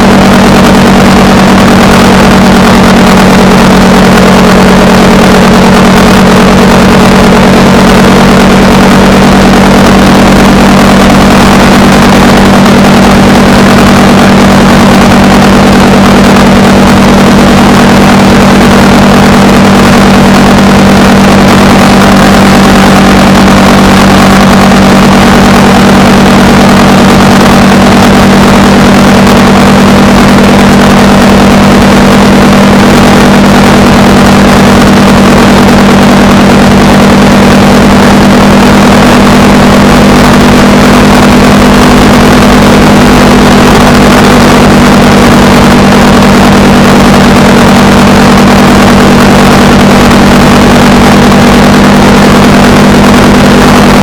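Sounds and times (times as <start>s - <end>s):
constant rushing noise: 0.0s - 54.0s
motorcycle engine cruising: 0.0s - 54.0s.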